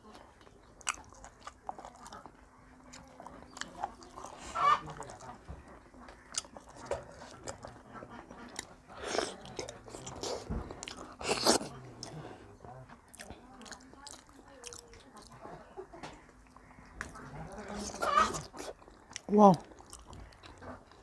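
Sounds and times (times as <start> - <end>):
chewing and wet mouth sounds: 0.0 - 21.0.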